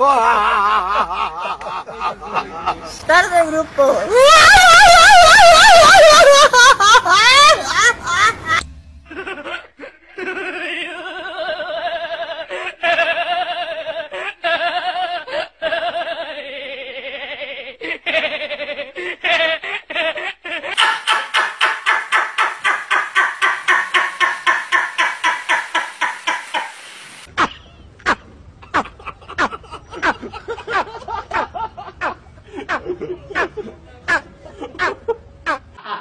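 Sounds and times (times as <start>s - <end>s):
man laughing in pulses: 0.0s - 2.7s, 4.1s - 36.0s
old man laughing: 0.0s - 3.0s, 4.1s - 27.9s, 28.6s - 36.0s
boy laughing: 0.0s - 26.8s, 28.7s - 36.0s.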